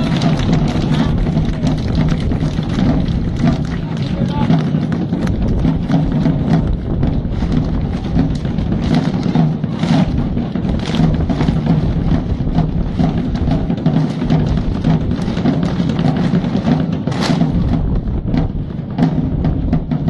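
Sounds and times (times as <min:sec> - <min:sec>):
field drums playing rhythm: 0:00.0 - 0:20.0.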